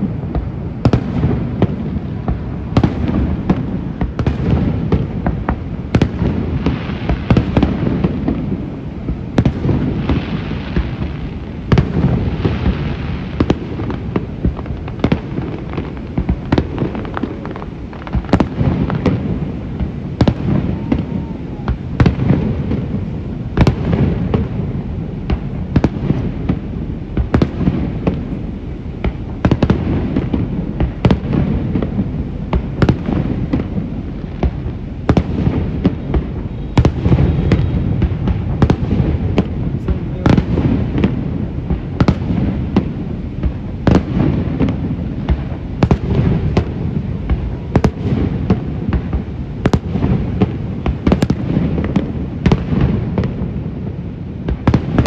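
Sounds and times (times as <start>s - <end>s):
continuous low rumble: 0.0s - 55.0s
fireworks bursting with sharp bangs: 0.0s - 55.0s.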